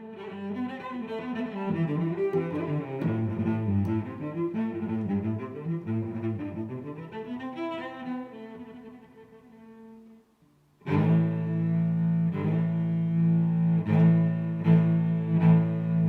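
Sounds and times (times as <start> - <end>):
music with low sustained notes: 0.0 - 10.0, 10.8 - 16.0.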